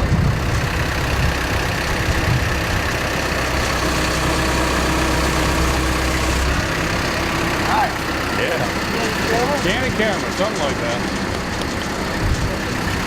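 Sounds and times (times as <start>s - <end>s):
machinery engine idling: 0.0s - 13.0s.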